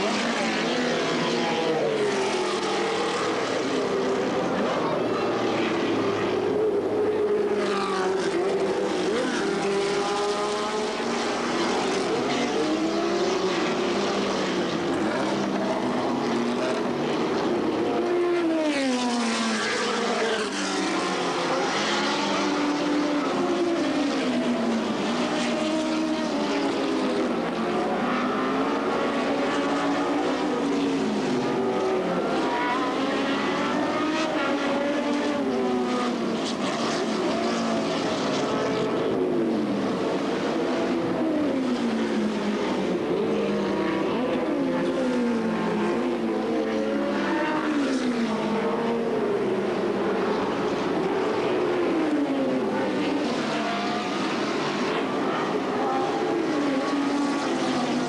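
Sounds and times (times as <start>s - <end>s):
racing car engines accelerating: 0.0s - 58.0s.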